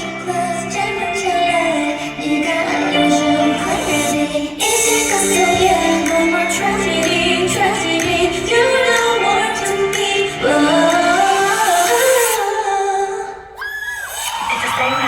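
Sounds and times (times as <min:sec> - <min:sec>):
amplified backing track: 0:00.0 - 0:13.6
woman singing pop song: 0:00.0 - 0:15.0.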